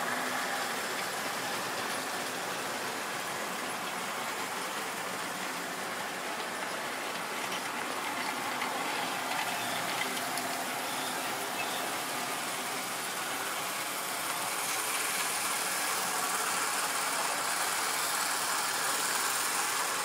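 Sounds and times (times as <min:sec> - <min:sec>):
model train wheels rolling: 0:00.0 - 0:20.0.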